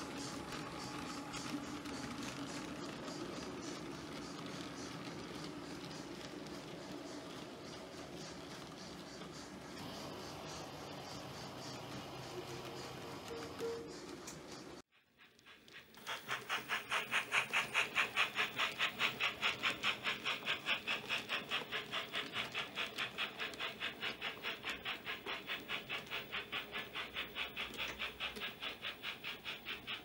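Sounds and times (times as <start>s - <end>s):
model steam locomotive chuffing: 0.0s - 30.0s.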